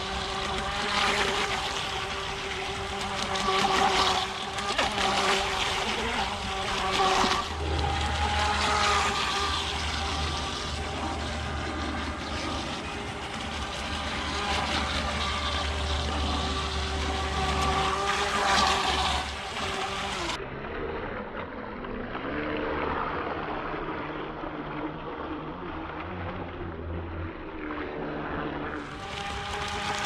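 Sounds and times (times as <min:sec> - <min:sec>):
electric motor whine: 0:00.0 - 0:21.0, 0:26.0 - 0:30.0.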